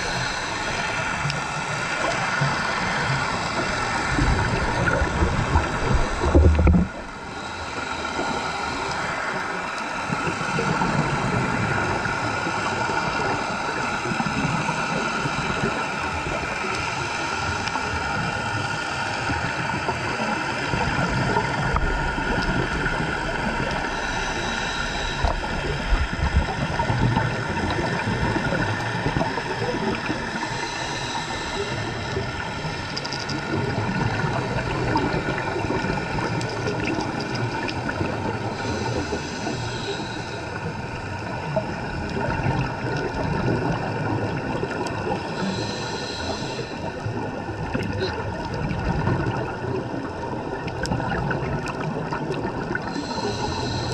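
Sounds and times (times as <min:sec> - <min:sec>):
faint steady hum: 0:00.0 - 0:53.9
underwater bubbling and gurgling: 0:00.0 - 0:53.9.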